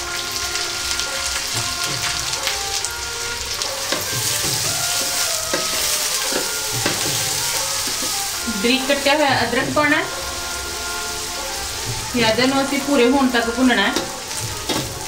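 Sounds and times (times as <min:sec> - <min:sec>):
onions sizzling in hot ghee: 0:00.0 - 0:15.0
metal ladle scraping pan: 0:00.1 - 0:15.0.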